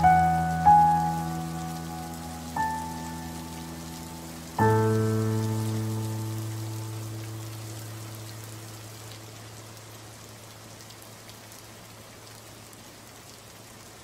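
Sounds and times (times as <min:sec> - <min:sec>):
rain-like patter: 0:00.0 - 0:14.0.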